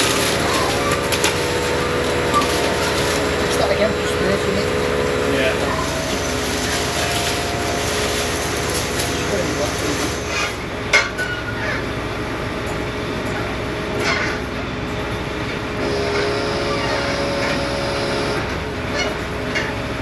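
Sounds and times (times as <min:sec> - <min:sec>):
hydraulic crane drone: 0:00.0 - 0:20.0.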